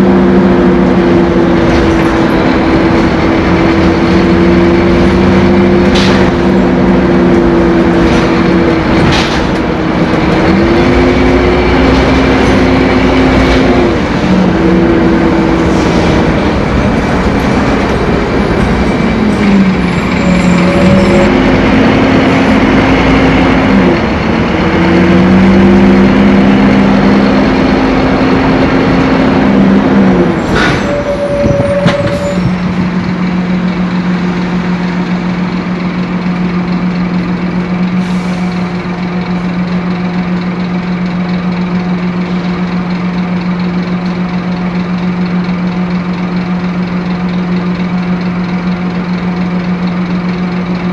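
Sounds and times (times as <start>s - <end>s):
diesel bus engine drone: 0.0s - 50.9s.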